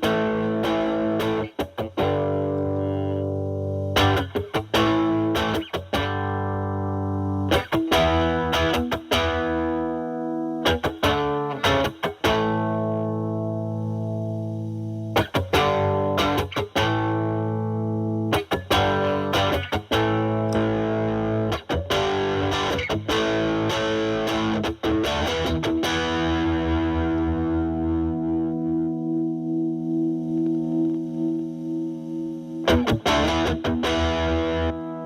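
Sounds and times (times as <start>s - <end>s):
distorted electric guitar chords: 0.0s - 35.0s.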